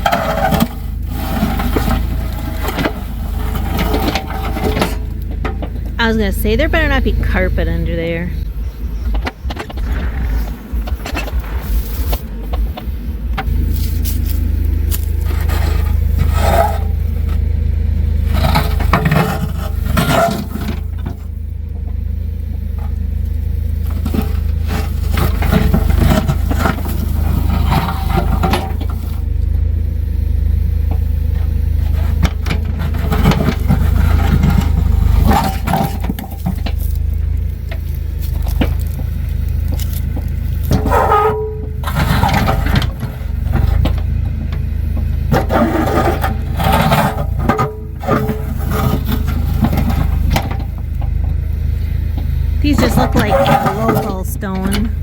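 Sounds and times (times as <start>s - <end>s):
bucket scraping stones and soil: 0.0s - 8.3s, 9.4s - 17.5s, 18.1s - 21.4s, 23.9s - 29.3s, 31.8s - 44.2s, 45.2s - 50.8s, 52.6s - 55.0s
digging machine engine running: 0.0s - 55.0s.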